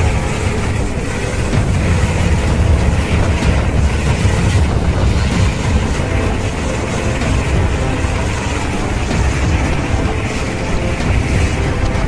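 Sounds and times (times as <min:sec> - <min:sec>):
helicopter rotor and turbine roar: 0:00.0 - 0:12.0.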